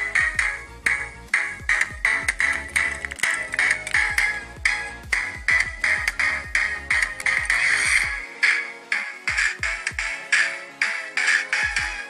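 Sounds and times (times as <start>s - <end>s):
electronic music with deep kick drum: 0.0s - 12.0s.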